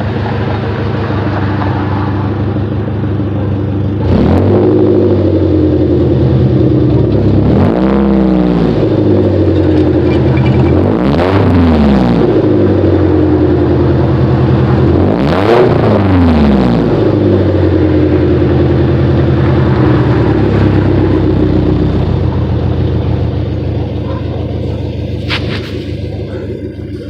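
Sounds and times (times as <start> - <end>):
car engine revving and idling: 0.0 - 27.0.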